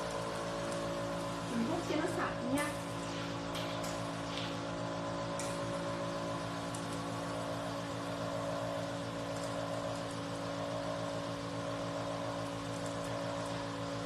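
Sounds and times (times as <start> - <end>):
vacuum pump humming: 0.0 - 14.0.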